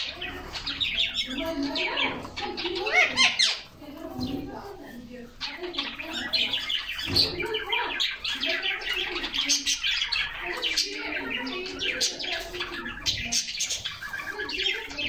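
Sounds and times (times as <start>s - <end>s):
canaries chirping and twittering: 0.0s - 15.0s.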